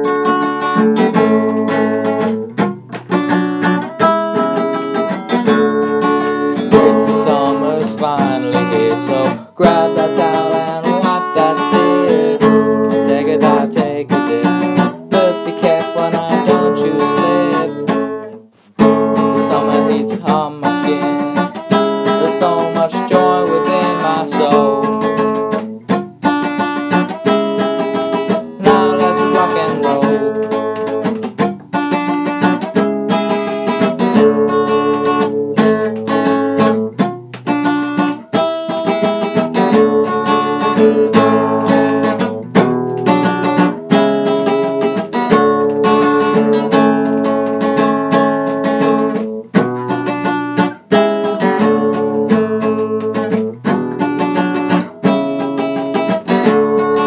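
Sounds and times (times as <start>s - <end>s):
acoustic guitar strumming chords: 0.0s - 57.0s.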